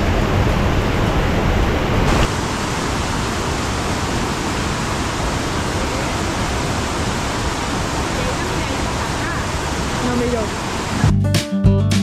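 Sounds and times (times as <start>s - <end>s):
river rushing over rocks: 0.0s - 11.1s.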